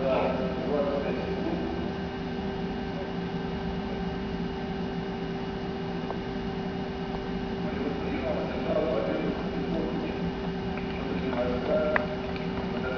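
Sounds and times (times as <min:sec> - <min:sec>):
steady electrical hum: 0:00.0 - 0:12.9.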